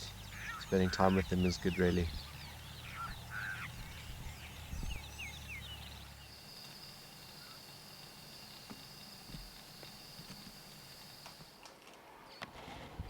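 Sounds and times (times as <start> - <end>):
high-pitched drone: 0.0 - 11.5
birds whistling: 0.0 - 11.6
low steady hum: 0.0 - 11.6.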